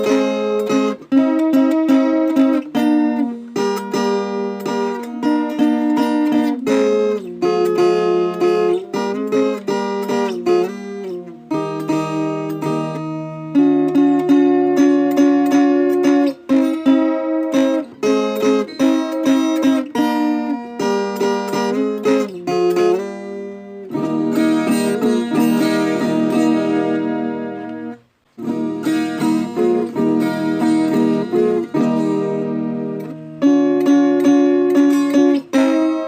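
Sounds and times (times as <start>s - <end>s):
folk guitar plucked: 0.0s - 36.0s.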